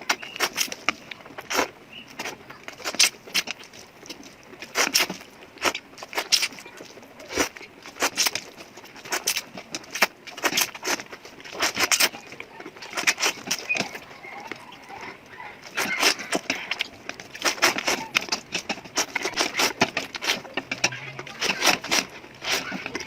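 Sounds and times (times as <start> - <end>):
chewing: 0.0 - 23.0
slurping: 0.0 - 23.0.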